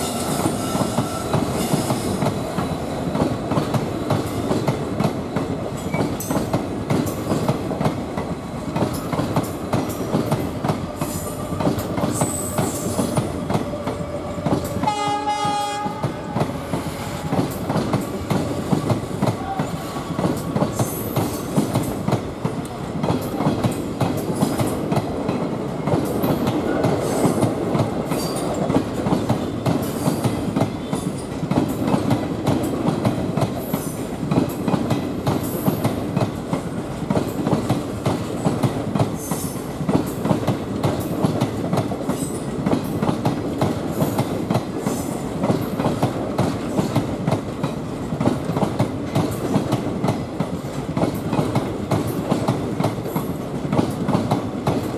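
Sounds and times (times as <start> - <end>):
train wheels clickety-clack: 0.0 - 54.9.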